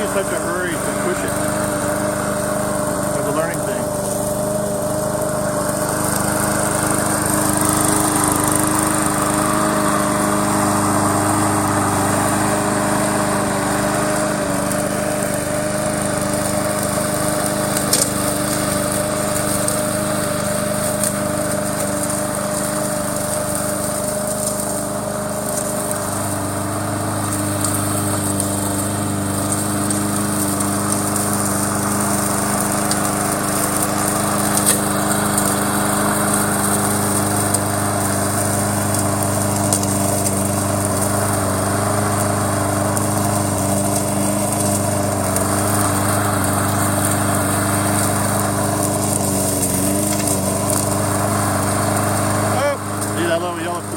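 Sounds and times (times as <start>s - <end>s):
remote-control lawn mower humming: 0.0s - 53.9s.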